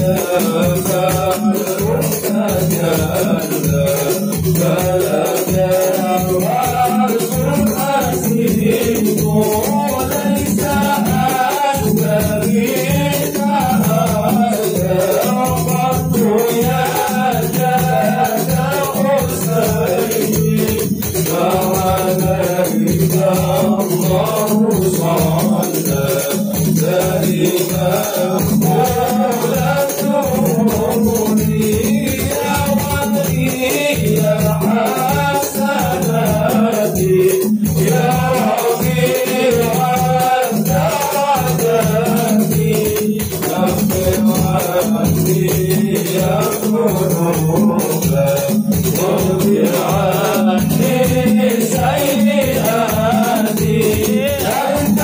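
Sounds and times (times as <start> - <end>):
men singing in unison: 0.0 - 55.0
rhythmic percussion: 0.0 - 55.0.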